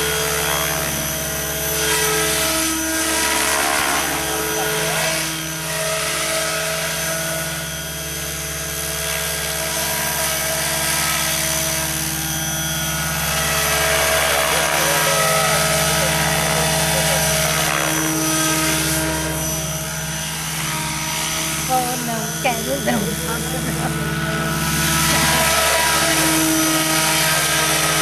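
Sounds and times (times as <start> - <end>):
model helicopter motor hum: 0.0 - 28.0.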